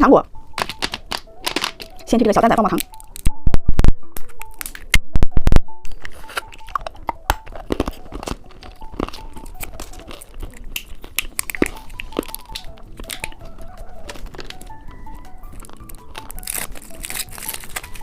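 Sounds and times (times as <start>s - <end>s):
soft background music: 0.0s - 18.0s
crunching and chewing candy: 0.5s - 3.3s, 5.9s - 18.0s.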